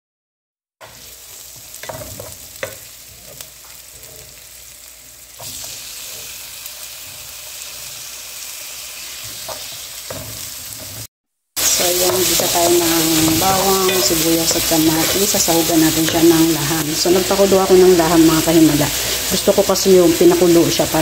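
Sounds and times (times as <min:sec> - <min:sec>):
onions sizzling in hot oil: 0:00.8 - 0:21.0.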